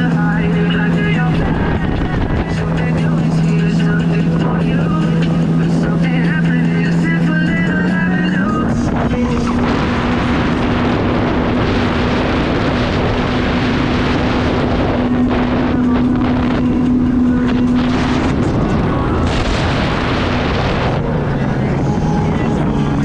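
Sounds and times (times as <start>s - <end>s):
jet ski engine whine: 0.0s - 23.0s
wind rushing on microphone: 0.0s - 23.0s.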